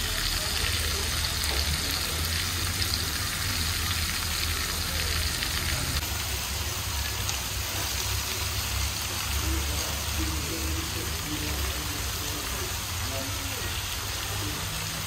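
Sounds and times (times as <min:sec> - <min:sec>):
sizzling hiss of cooking: 0:00.0 - 0:15.0.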